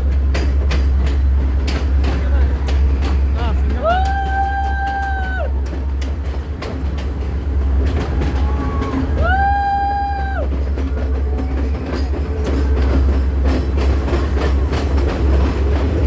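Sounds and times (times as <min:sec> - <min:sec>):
train rumbling along track: 0:00.0 - 0:16.0
wheels clicking over rails: 0:00.0 - 0:16.0.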